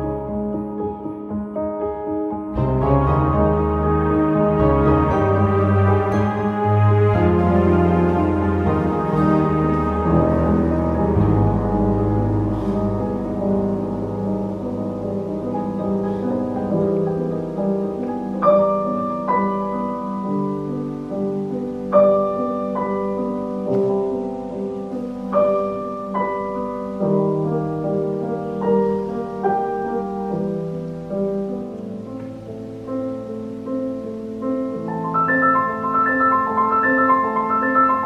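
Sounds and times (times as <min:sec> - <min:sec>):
solo classical piano: 0:00.0 - 0:38.0.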